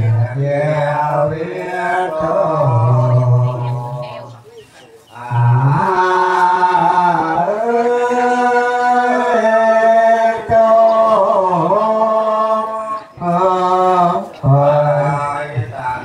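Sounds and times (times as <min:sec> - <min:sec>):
man chanting into a microphone: 0:00.0 - 0:04.4, 0:05.1 - 0:16.0.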